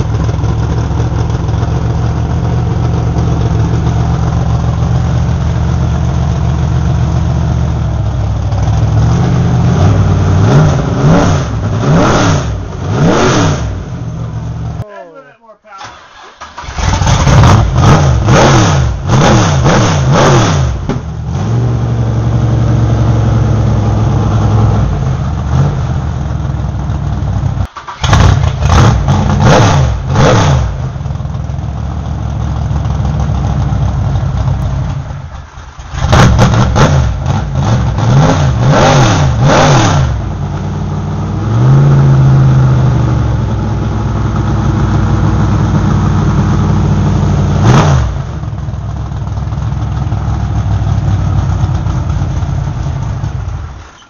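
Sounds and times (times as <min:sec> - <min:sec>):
loud engine revving and idling: 0:00.0 - 0:14.8, 0:16.6 - 0:35.1, 0:35.9 - 0:53.6.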